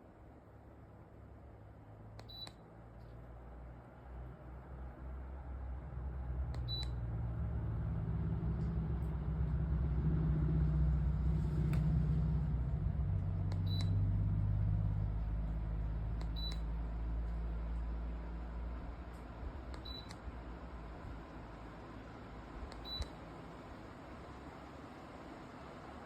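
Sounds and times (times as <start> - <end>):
fan humming: 4.8 - 26.0.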